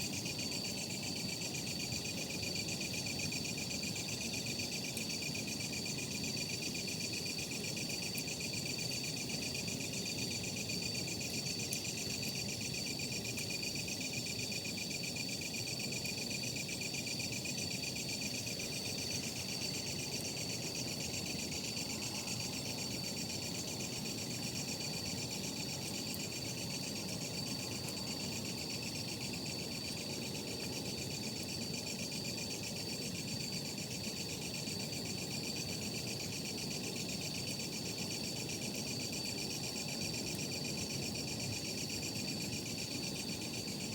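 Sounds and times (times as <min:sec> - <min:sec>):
night insects chirping: 0:00.0 - 0:43.9.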